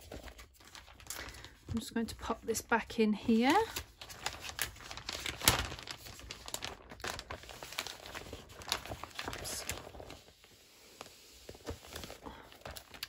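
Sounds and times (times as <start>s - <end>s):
packaging crinkling: 0.0s - 1.7s, 3.4s - 13.0s.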